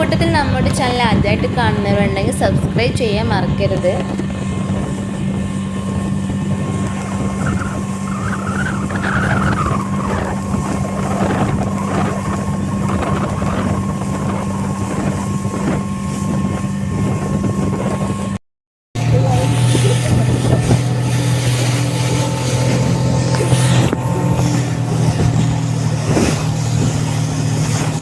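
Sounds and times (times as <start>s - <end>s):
rushing water and wind: 0.0s - 18.4s, 19.0s - 28.0s
speedboat engine running: 0.0s - 18.4s, 19.0s - 28.0s.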